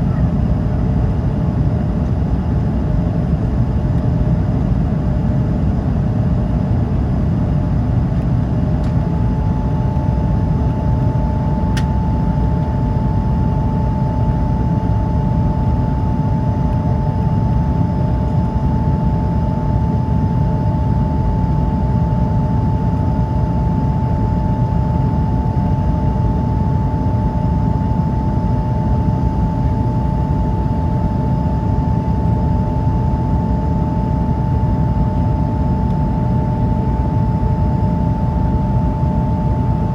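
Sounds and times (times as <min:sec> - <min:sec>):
aircraft cabin engine rumble: 0:00.0 - 0:39.9
steady hum: 0:00.0 - 0:39.9.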